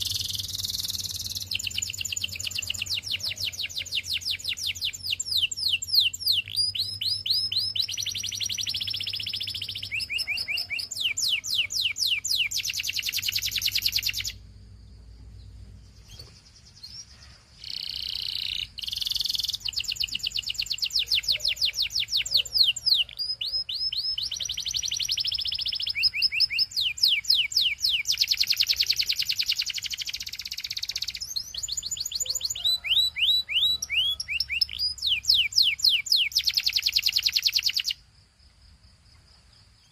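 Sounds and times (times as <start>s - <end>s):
canary singing trills: 0.0s - 38.0s.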